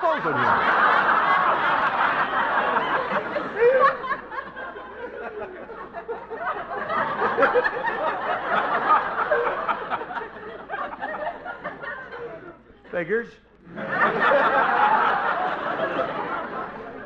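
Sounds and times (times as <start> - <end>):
audience laughing: 0.0 - 17.0.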